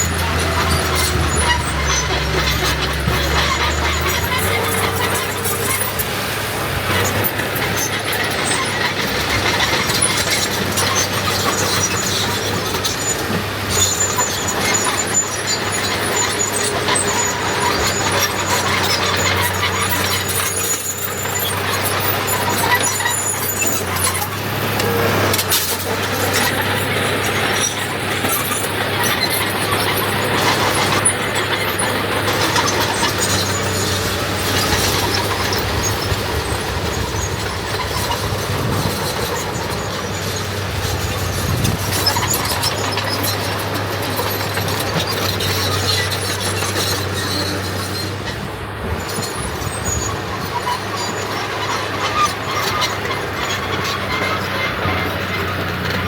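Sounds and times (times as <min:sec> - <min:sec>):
diesel machinery running: 0:00.0 - 0:56.0
high-pitched squeal: 0:00.0 - 0:56.0.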